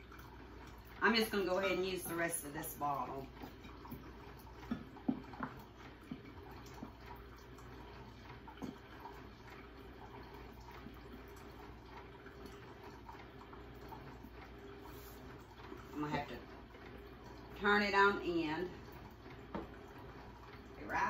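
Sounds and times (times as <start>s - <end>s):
coffee maker gurgling: 0.0s - 21.0s.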